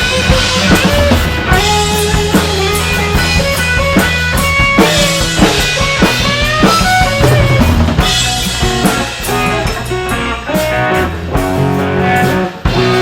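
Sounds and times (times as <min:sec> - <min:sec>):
bass guitar: 0:00.0 - 0:13.0
drum kit: 0:00.0 - 0:13.0
lead guitar bending notes: 0:00.0 - 0:13.0.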